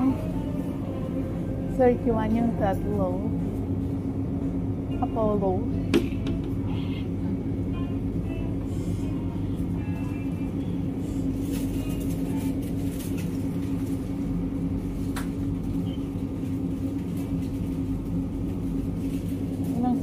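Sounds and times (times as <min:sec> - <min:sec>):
freezer hum: 0:00.0 - 0:20.0.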